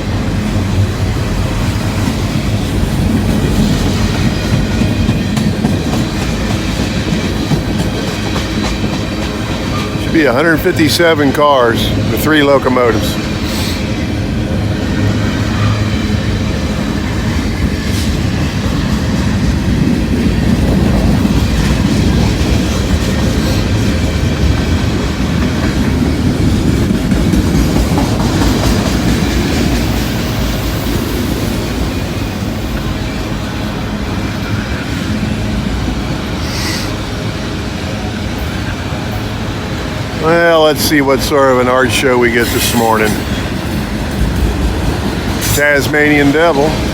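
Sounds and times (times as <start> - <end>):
clickety-clack over rail joints: 0.0 - 46.9
freight train wheels rumbling: 0.0 - 46.9.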